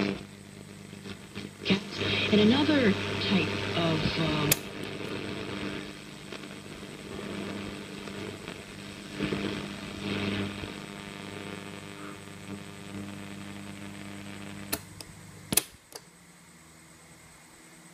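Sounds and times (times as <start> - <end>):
radio hum with static: 0.0 - 17.9.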